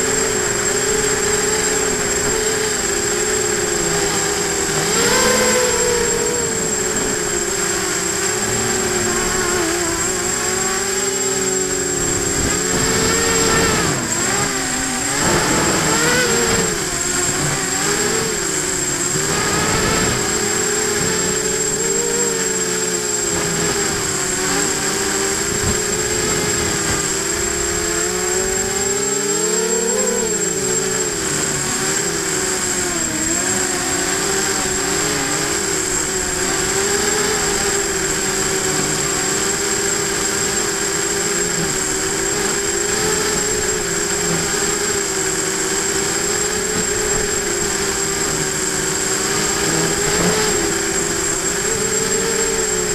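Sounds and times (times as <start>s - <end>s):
drone motors whirring: 0.0s - 52.9s
high whine: 0.0s - 52.9s.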